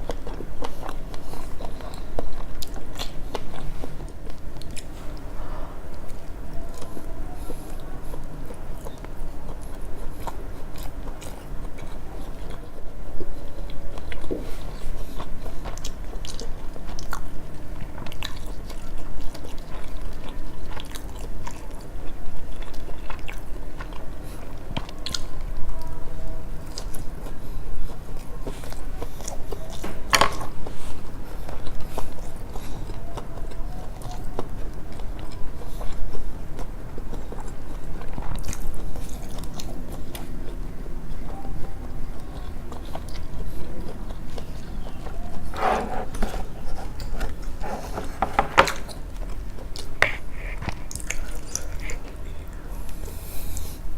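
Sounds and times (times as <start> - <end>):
chewing with wet mouth sounds: 0.0 - 53.9.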